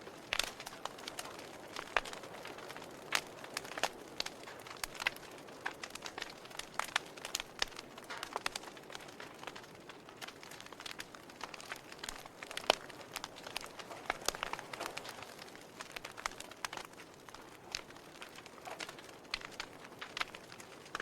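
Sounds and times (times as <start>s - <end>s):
campfire crackling and popping: 0.0s - 21.0s
soft steady hiss: 0.0s - 21.0s.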